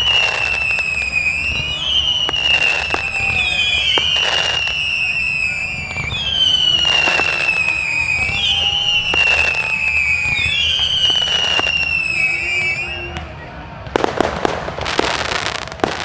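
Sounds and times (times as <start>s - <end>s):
descending firework whistles: 0.0s - 16.0s
firework bangs and crackling: 0.0s - 16.0s.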